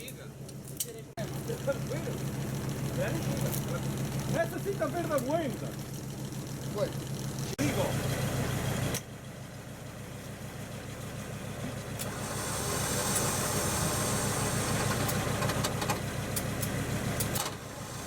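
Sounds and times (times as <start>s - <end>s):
diesel engine under load: 0.0s - 18.0s.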